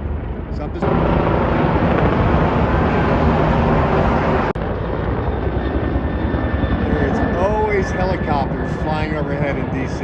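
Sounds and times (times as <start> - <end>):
helicopter flying overhead: 0.0 - 10.0.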